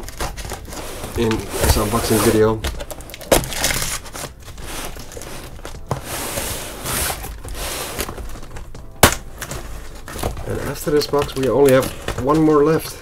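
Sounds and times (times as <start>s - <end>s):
packing tape tearing: 0.0s - 12.6s
cardboard crinkling and scraping: 0.0s - 13.0s.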